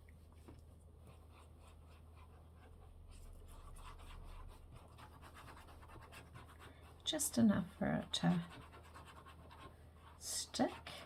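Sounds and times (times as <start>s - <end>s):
low steady hum: 0.0s - 11.0s
scratching and rubbing on cloth: 1.0s - 11.0s.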